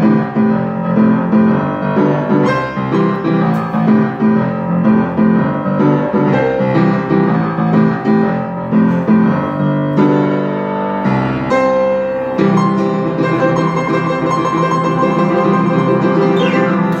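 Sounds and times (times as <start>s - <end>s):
upright piano chords: 0.0s - 17.0s.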